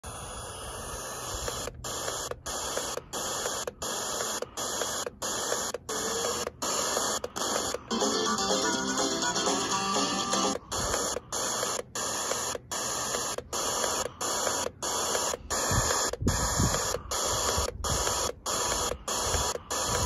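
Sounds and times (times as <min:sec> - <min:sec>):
radio static hiss: 0:00.0 - 0:20.0
music through radio speaker: 0:00.2 - 0:20.0.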